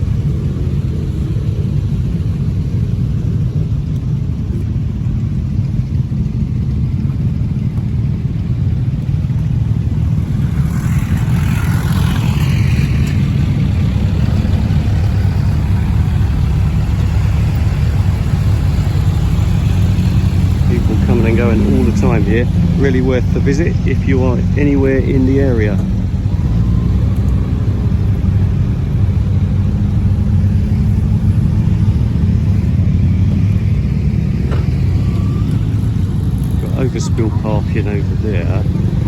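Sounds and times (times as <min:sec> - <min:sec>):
motorcycle engines rumbling: 0:00.0 - 0:39.0
motorcycle revving: 0:00.0 - 0:39.0.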